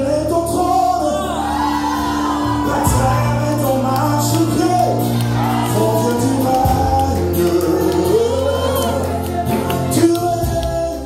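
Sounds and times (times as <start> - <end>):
singers over a band: 0.0 - 11.0.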